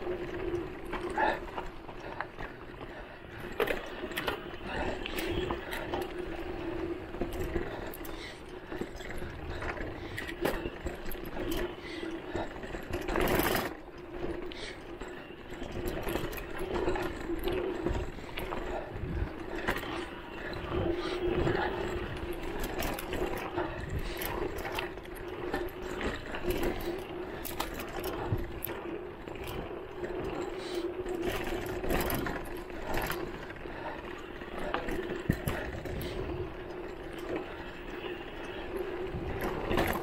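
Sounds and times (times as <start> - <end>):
bike rattling over bumps: 0.0 - 40.0
electric bike motor whining: 0.0 - 40.0.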